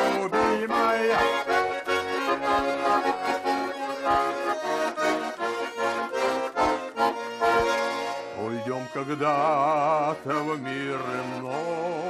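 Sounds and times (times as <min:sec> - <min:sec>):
button accordion playing folk tune: 0:00.0 - 0:12.0.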